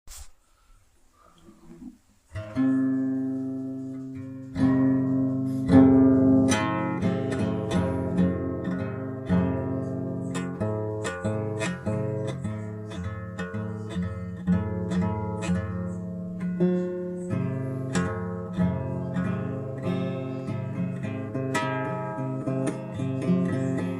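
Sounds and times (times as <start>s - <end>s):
acoustic guitar strumming: 2.3s - 23.9s.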